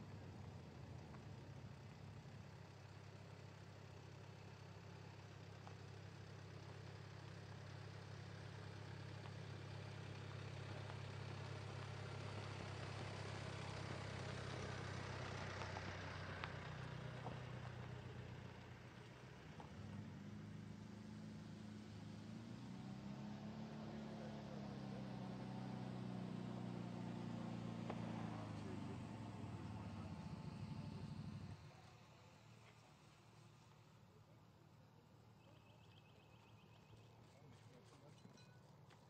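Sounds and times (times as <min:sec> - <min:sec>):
low engine hum: 0:00.0 - 0:39.0.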